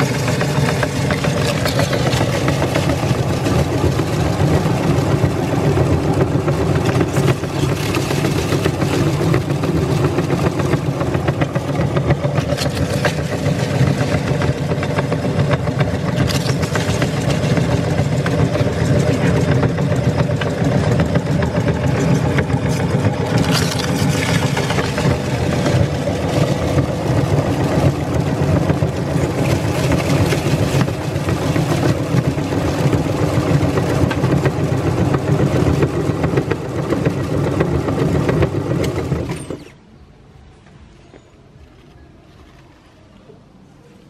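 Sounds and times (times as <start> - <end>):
meat grinder grinding chips: 0.0 - 39.7.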